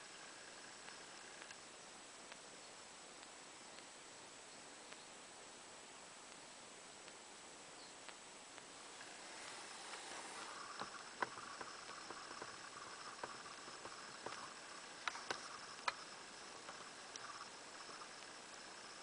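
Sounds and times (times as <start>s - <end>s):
faint irregular clicks: 0.0s - 4.0s, 6.2s - 7.2s, 7.8s - 19.0s
background hiss: 0.0s - 19.0s.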